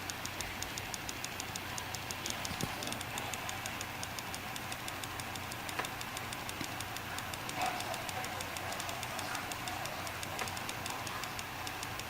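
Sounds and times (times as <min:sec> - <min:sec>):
hard drive ticking: 0:00.0 - 0:12.0
low steady hum: 0:00.0 - 0:12.0.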